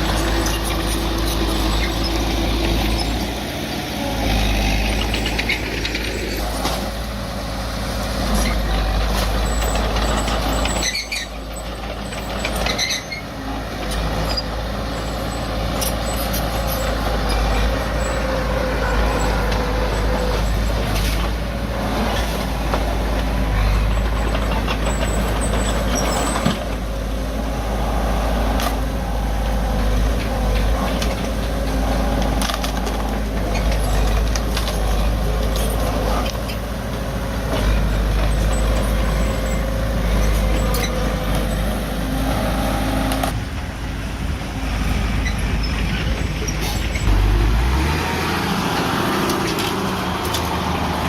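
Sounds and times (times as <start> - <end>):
heavy machinery diesel engine: 0.0 - 51.0.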